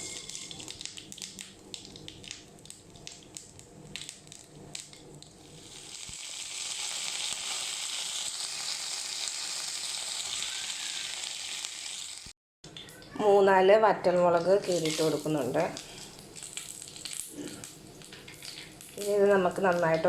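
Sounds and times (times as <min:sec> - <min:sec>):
seeds crackling in hot oil: 0:00.0 - 0:13.1, 0:14.2 - 0:20.0.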